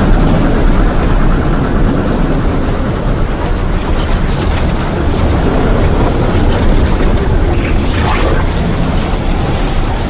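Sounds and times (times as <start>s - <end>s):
loud roaring wind: 0.0s - 10.0s.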